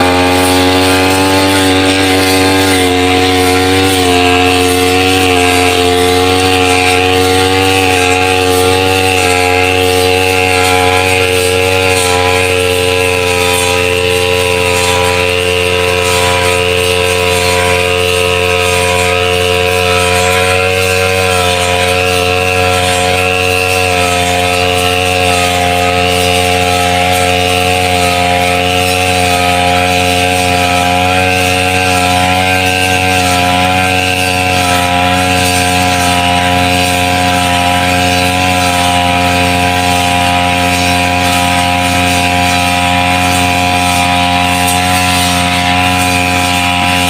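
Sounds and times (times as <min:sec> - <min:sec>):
brush cutter engine running: 0:00.0 - 0:47.0.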